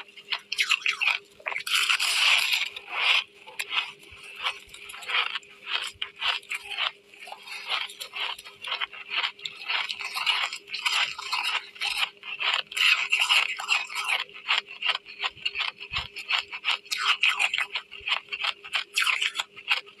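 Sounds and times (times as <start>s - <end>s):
faint steady hum: 0.0s - 20.0s
person crunching ice: 0.3s - 19.9s.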